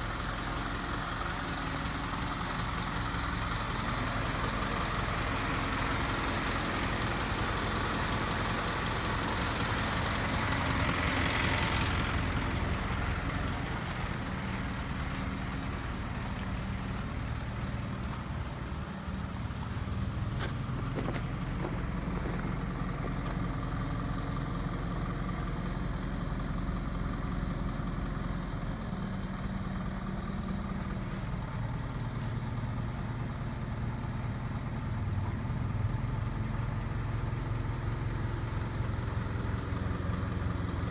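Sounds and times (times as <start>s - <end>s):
tow truck engine idling: 0.0s - 40.9s.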